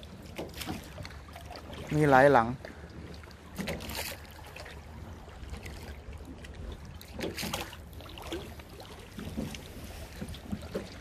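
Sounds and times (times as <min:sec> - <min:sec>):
paddle splashing in water: 0:00.0 - 0:11.0
water trickling: 0:00.0 - 0:11.0.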